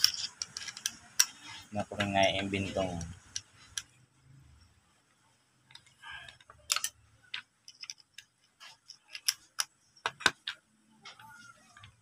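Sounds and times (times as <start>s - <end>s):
small metal parts clicking: 0.0s - 2.1s, 2.7s - 4.0s, 5.7s - 12.0s.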